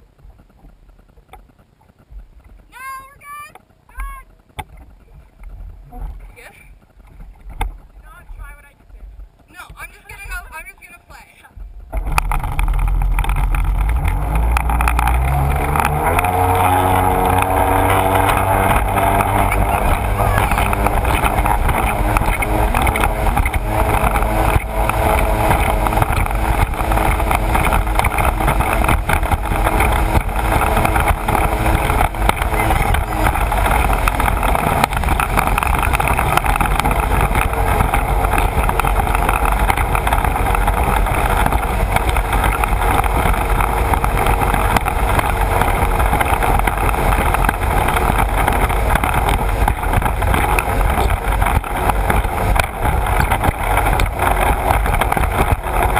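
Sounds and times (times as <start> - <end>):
water rushing along hull: 0.0 - 55.9
watercraft engine drone: 0.0 - 55.9.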